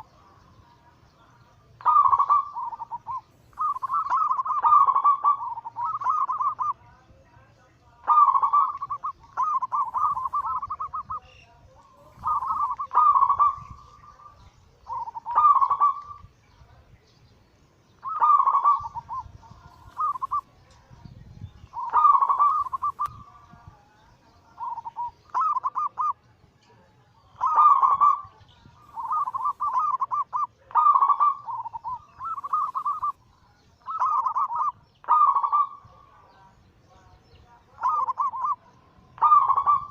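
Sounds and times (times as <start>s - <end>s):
dove cooing song: 0.0s - 16.9s, 17.9s - 39.9s.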